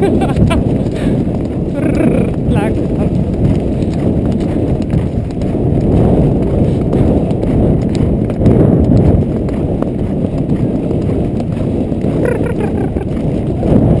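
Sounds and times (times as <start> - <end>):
horse hoofbeats on soft earth: 0.0 - 14.0
wind noise on microphone: 0.0 - 14.0.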